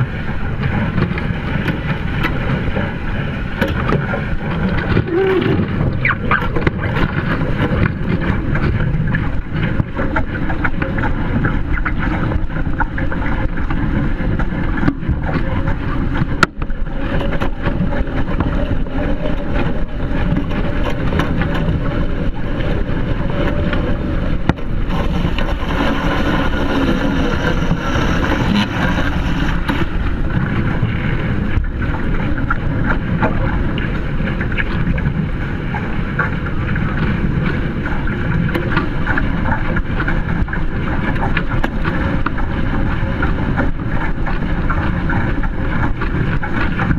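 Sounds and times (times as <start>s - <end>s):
boat hulls splashing through chop: 0.0s - 46.9s
wind buffeting microphone: 0.0s - 46.9s.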